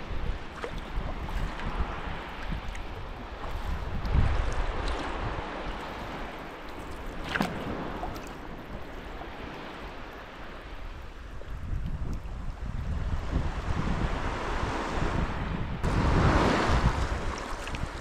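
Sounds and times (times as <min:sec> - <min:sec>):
water splashing around kayak: 0:00.0 - 0:18.0
wind on microphone: 0:00.0 - 0:18.0.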